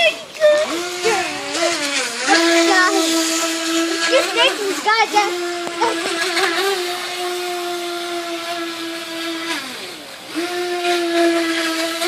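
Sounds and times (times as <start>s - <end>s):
electric motor high-pitched whine: 0.0s - 12.0s.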